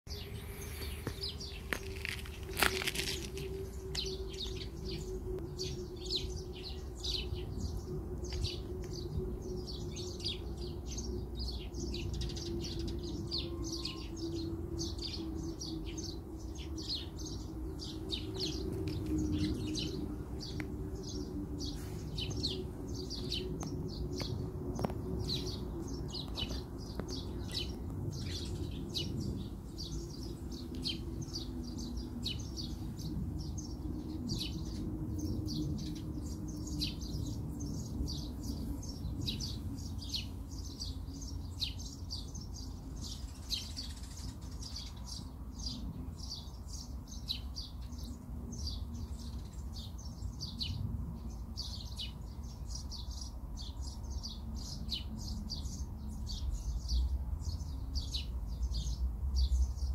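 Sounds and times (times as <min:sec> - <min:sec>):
small birds chirping: 0:00.1 - 0:59.9.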